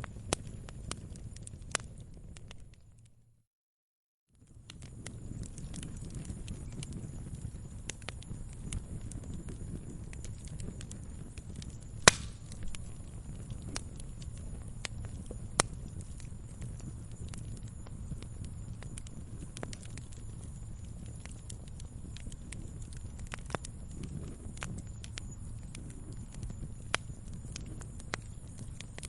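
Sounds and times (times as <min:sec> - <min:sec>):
sharp pops from fire: 0:00.0 - 0:03.1, 0:04.4 - 0:29.0
wood fire crackling: 0:00.0 - 0:03.2, 0:04.4 - 0:29.0
low steady rumble: 0:04.5 - 0:29.0.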